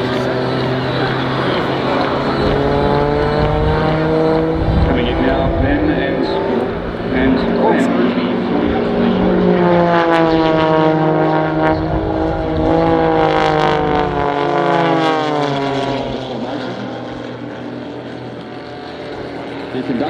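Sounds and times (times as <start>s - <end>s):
propeller planes flying past: 0.0s - 20.0s.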